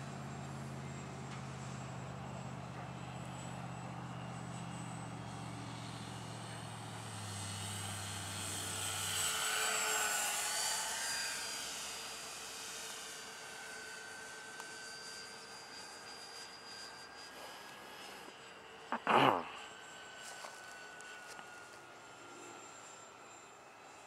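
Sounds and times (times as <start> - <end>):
model airplane propeller whine: 0.0 - 24.0.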